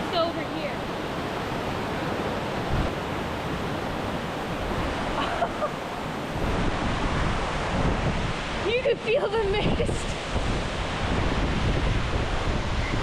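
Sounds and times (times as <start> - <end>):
waterfall roaring: 0.0 - 13.0
wind buffeting microphone: 0.0 - 13.0.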